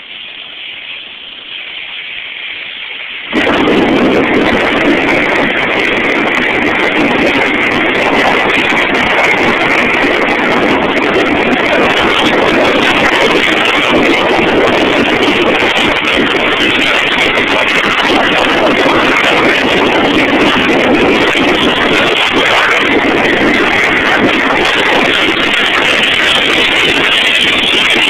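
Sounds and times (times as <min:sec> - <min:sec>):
wind and tyre noise of moving car: 0:00.0 - 0:28.0.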